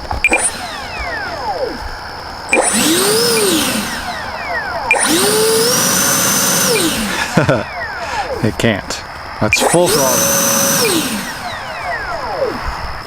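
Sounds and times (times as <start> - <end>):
electric ducted fan whine: 0.0 - 13.0.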